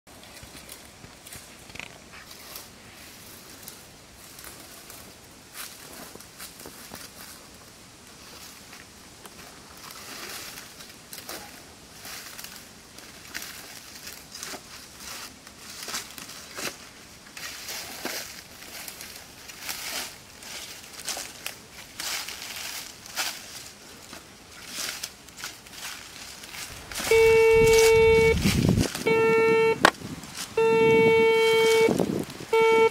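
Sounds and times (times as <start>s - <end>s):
dry leaves crunching underfoot: 0.2s - 32.5s.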